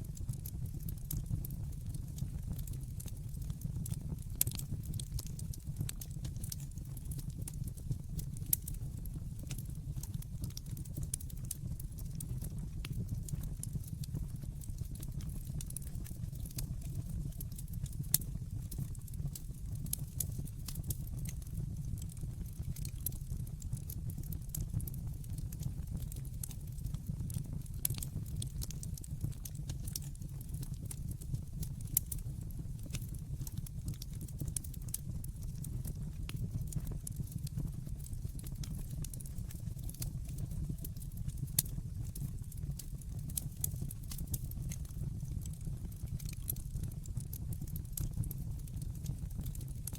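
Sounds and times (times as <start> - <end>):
fire popping: 0.0 - 49.9
fire rumbling and crackling: 0.0 - 49.9.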